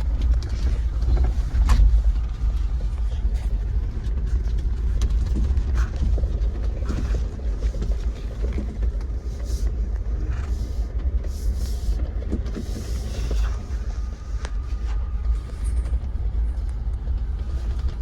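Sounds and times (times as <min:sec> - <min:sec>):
vehicle rumbling on dirt trail: 0:00.0 - 0:18.0.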